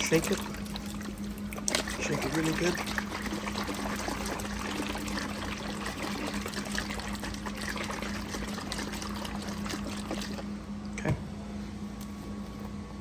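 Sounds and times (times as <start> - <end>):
liquid sloshing in bottle: 0.0 - 10.6
steady low hum: 0.0 - 13.0.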